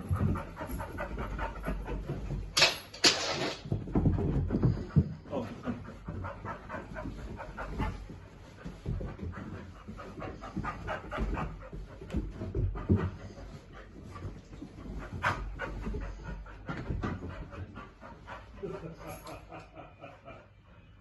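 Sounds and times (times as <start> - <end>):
dog panting: 0.0 - 2.6, 3.8 - 20.8
paws thumping on carpeted stairs: 0.0 - 20.5.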